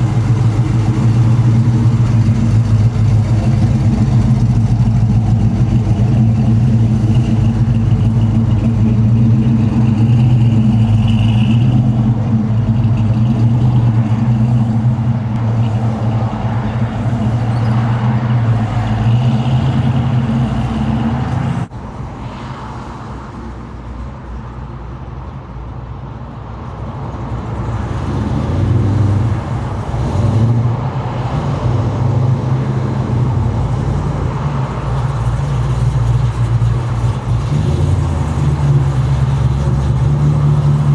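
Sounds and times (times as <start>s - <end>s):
car engine low rumble: 0.0s - 40.9s.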